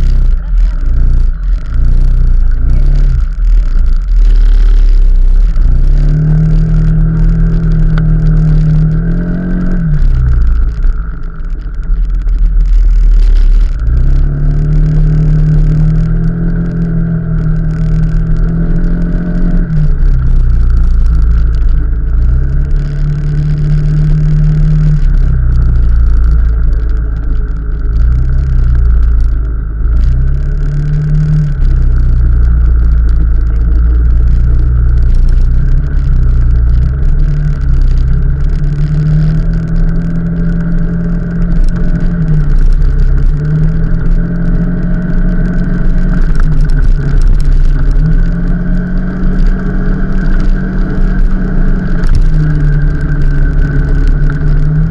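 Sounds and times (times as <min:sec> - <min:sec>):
low wind rumble: 0:00.0 - 0:54.9
motorcycle engine revving: 0:00.0 - 0:54.9.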